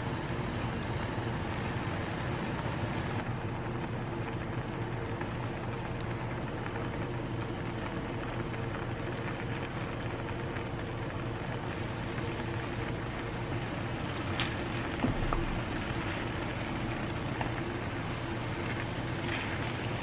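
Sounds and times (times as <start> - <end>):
low burner hum: 0.0 - 20.0
sauce bubbling in a pan: 0.1 - 20.0.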